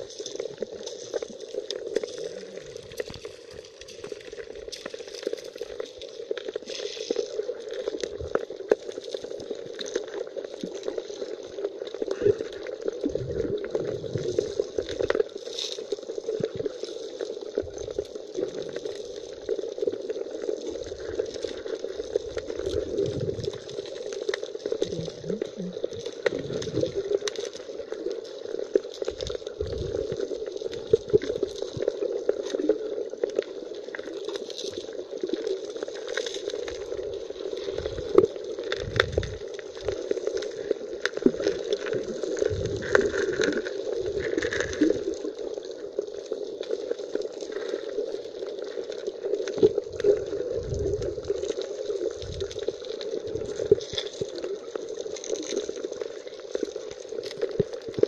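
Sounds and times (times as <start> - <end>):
muffled underwater gurgling: 0.0 - 58.0.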